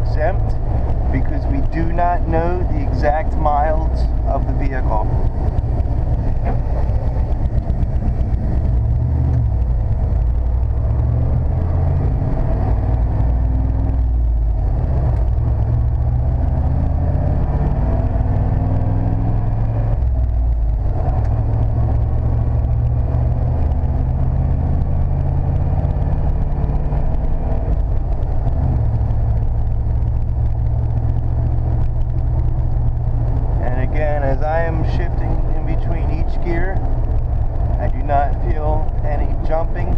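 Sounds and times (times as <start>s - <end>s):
pickup truck engine running: 0.0s - 39.9s.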